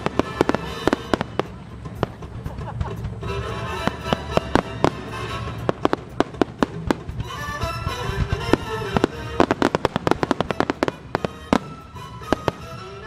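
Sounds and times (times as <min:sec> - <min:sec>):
firework shells bursting: 0:00.0 - 0:13.0
music playing: 0:00.0 - 0:13.0.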